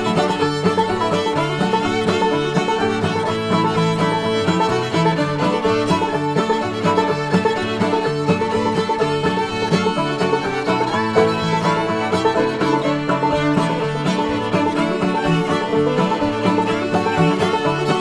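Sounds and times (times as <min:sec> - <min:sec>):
fiddle and banjo bluegrass music: 0:00.0 - 0:18.0.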